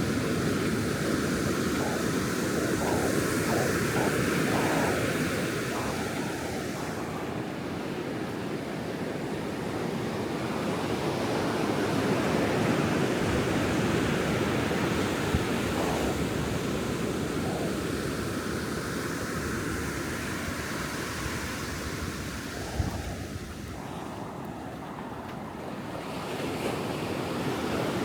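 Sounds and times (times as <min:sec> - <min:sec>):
ocean surf washing on beach: 0:00.0 - 0:28.0.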